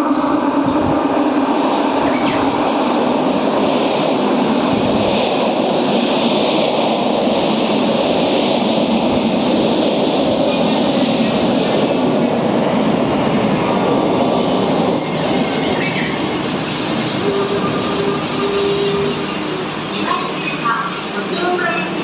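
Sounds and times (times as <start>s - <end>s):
subway train running through tunnel: 0.0s - 22.0s.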